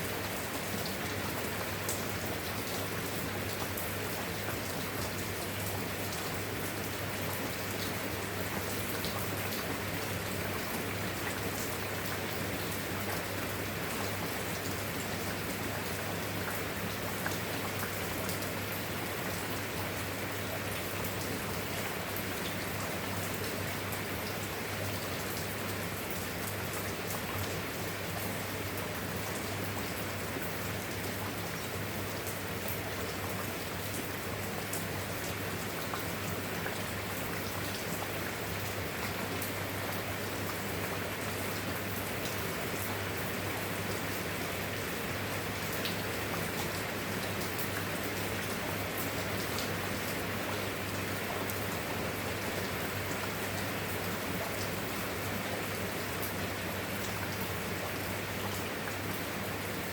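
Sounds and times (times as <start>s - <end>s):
steady rain: 0.0s - 59.9s
raindrops ticking on a surface: 0.1s - 59.2s.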